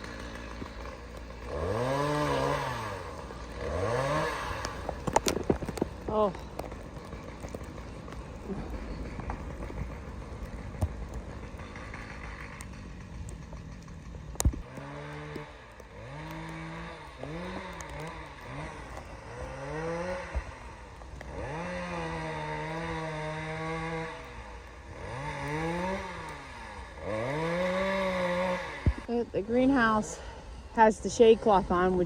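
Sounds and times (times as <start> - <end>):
small engine revving: 0.0 - 32.0.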